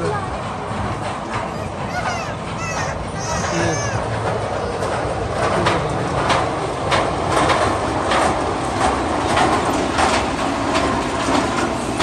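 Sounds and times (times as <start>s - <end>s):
ride train rumbling on track: 0.0s - 12.0s
track clacking: 0.0s - 12.0s.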